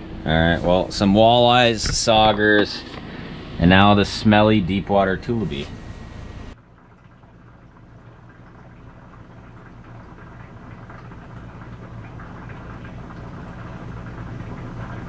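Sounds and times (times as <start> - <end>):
low mechanical hum of machinery: 0.0 - 15.0.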